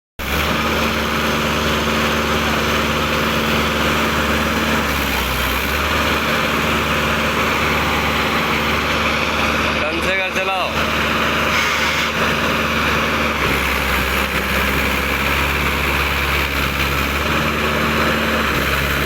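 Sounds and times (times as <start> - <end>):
tractor diesel engine running: 0.2 - 19.0.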